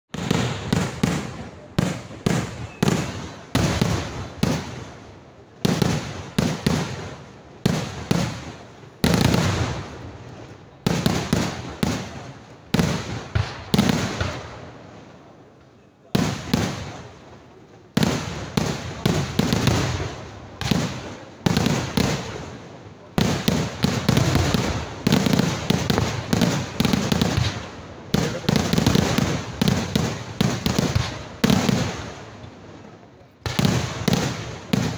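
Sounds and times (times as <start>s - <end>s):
fireworks bangs with echo: 0.1s - 34.9s.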